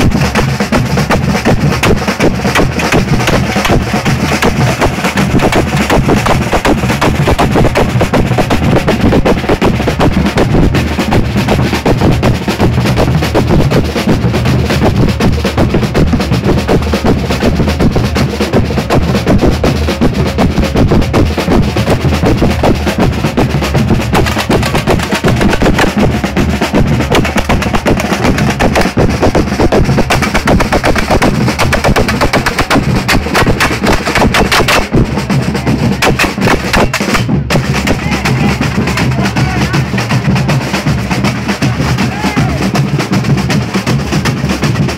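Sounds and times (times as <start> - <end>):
samba drums playing: 0.0 - 44.9.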